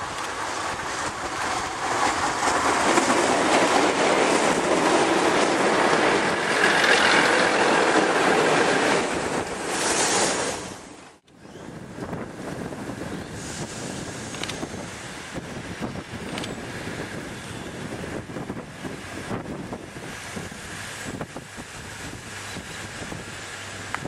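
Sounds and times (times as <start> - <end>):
diesel railcar passing: 0.0 - 24.0.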